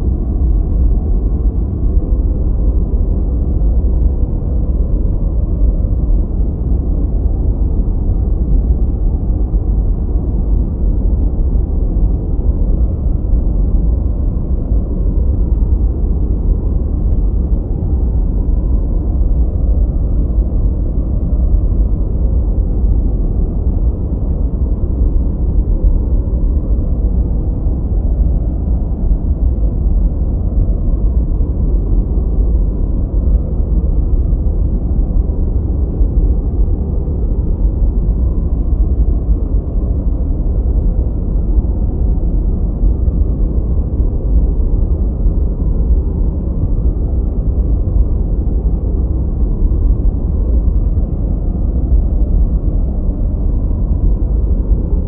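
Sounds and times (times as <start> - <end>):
deep rumbly brown noise: 0.0 - 55.0.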